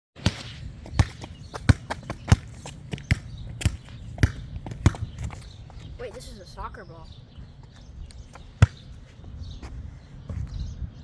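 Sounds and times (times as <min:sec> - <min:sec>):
soccer ball bouncing: 0:00.2 - 0:06.2, 0:07.6 - 0:10.5.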